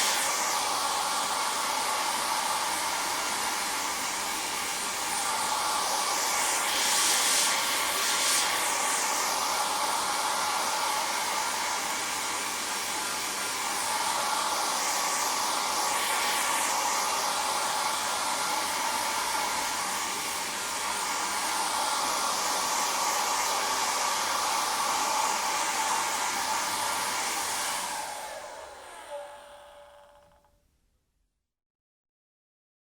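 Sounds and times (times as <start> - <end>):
hair dryer running: 0.0 - 30.6.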